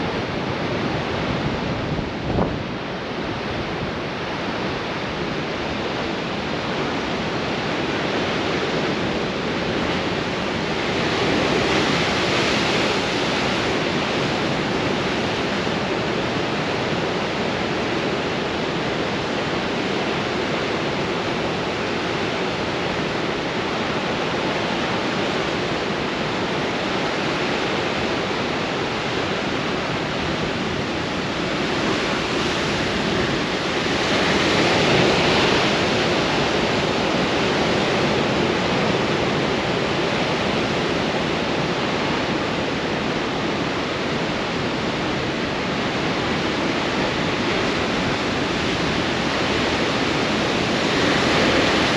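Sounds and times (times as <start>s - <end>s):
wind: 0.0s - 51.9s
surf crashing against rocks: 9.5s - 51.9s.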